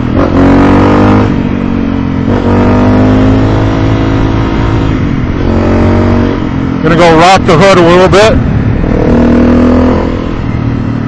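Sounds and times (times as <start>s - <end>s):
motorcycle engine shifting gears: 0.0s - 11.0s.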